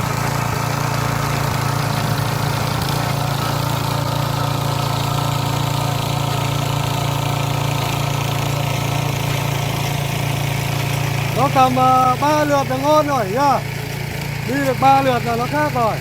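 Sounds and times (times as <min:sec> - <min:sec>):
tiller petrol engine running: 0:00.0 - 0:16.0.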